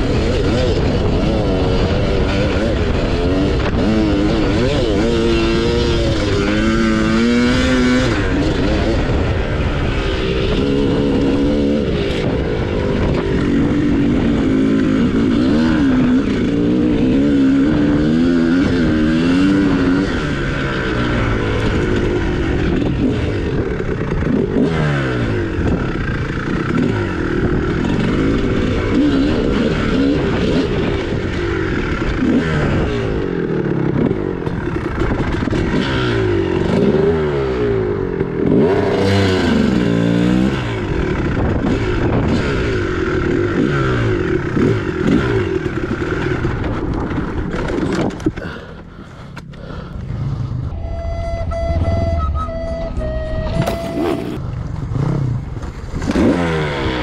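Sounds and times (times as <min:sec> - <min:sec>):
two-stroke dirt bike engine revving: 0:00.0 - 0:50.8, 0:51.6 - 0:57.0.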